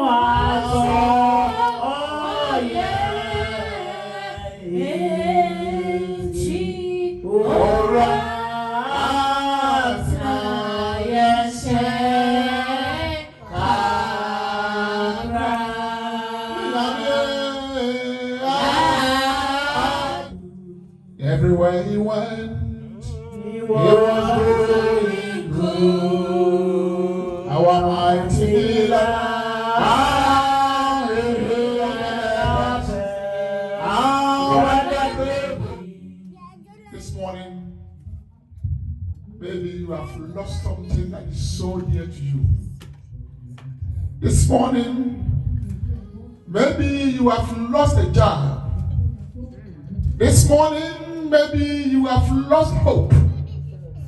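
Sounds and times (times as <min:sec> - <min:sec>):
slow worship song singing: 0:00.0 - 0:54.0.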